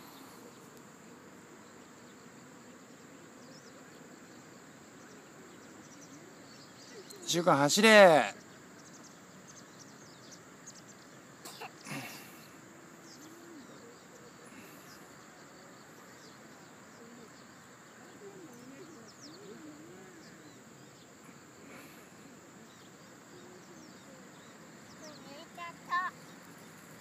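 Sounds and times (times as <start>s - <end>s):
background hiss: 0.0s - 27.0s
insects: 0.0s - 27.0s.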